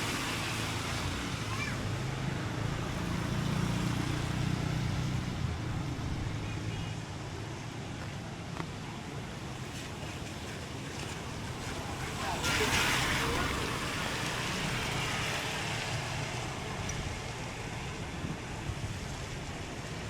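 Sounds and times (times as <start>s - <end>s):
traffic hiss: 0.0s - 20.0s.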